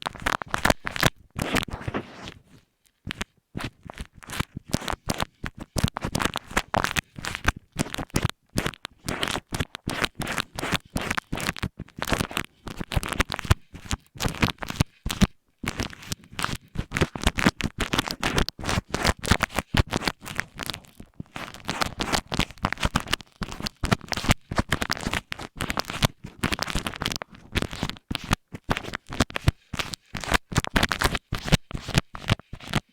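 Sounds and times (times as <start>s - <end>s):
scratching on a microphone: 0.0s - 32.9s.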